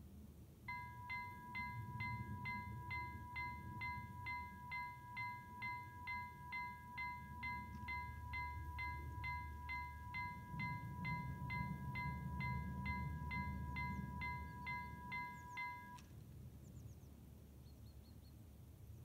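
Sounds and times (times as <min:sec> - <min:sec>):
level crossing warning bell ringing: 0:00.7 - 0:16.1.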